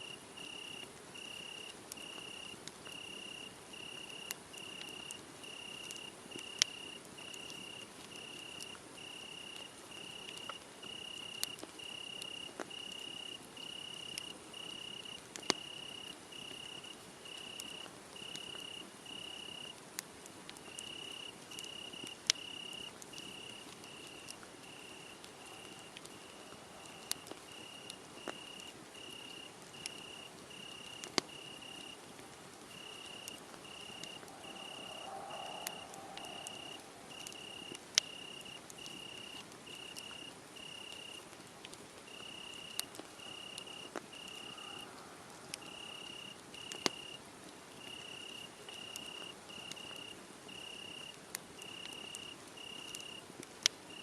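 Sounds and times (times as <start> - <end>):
crickets chirping: 0.0 - 19.8, 20.6 - 41.3, 42.1 - 47.2, 47.8 - 53.2
wood fire crackling and popping: 0.2 - 54.0.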